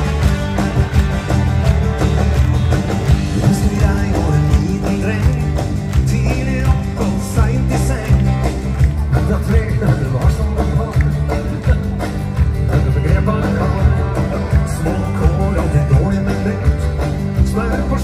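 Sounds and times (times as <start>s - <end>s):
live rock and roll band: 0.0s - 18.0s.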